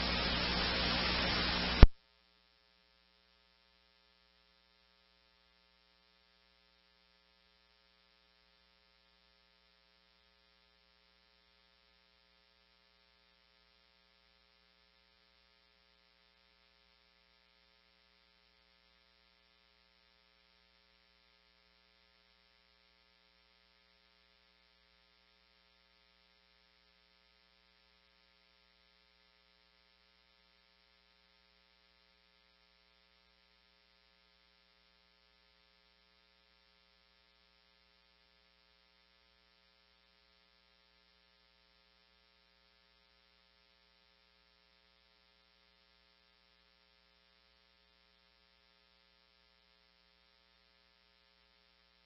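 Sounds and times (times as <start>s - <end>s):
faint electrical hum: 0.0s - 52.0s.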